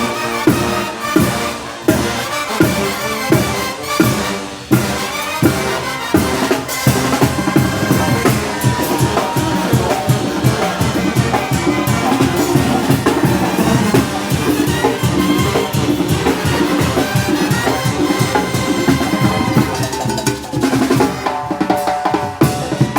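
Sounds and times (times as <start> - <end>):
bass drum and snare beat: 0.0 - 22.9
brass band playing: 0.0 - 22.9.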